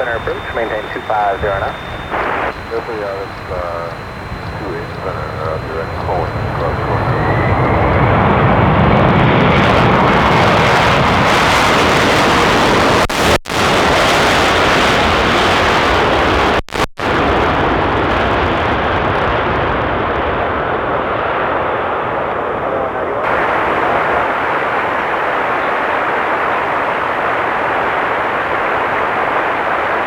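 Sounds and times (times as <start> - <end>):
jet engines passing close: 0.0 - 16.5, 17.2 - 30.0.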